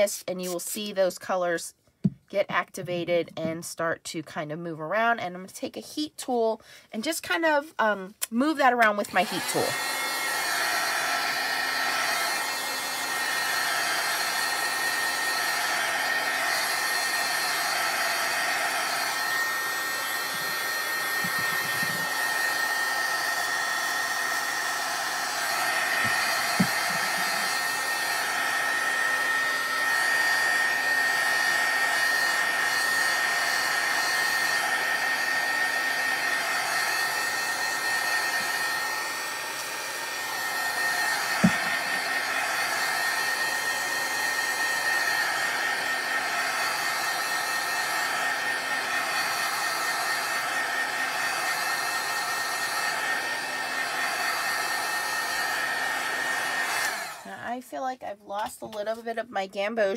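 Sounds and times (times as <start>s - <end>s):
heat gun blowing with whine: 0.0s - 0.9s, 8.2s - 57.6s.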